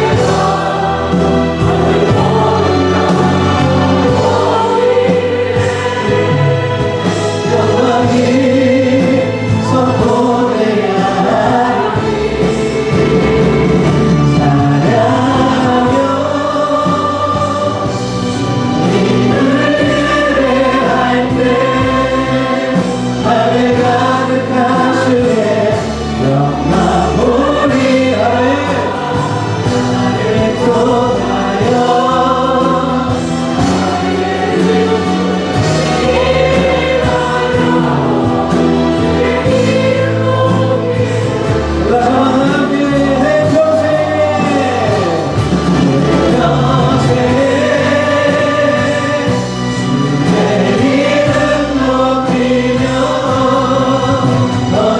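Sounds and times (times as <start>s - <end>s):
choir singing: 0.0s - 54.9s
musical accompaniment: 0.0s - 54.9s.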